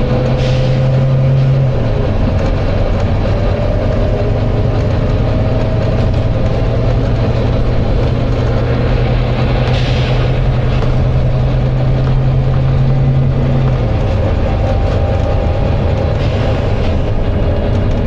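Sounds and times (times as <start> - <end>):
bus diesel engine whining: 0.0 - 18.0.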